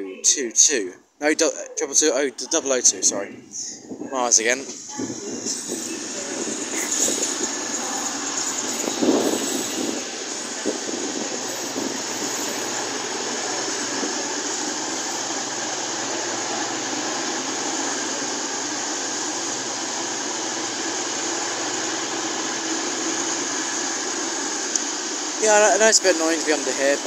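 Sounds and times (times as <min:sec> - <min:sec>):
diesel train engines idling: 0:04.4 - 0:27.0.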